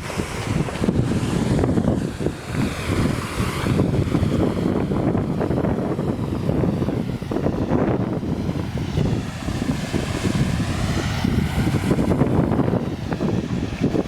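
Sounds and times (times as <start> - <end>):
waterfall rushing: 0.0 - 14.0
wind buffeting microphone: 0.0 - 14.0.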